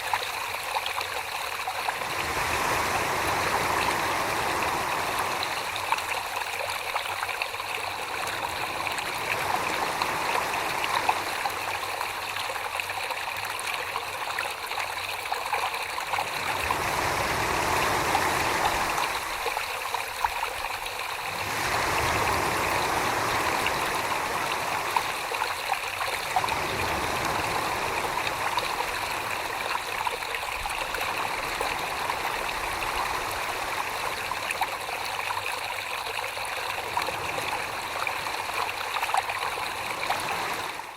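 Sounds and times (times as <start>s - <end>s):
trickling running water: 0.0s - 40.9s.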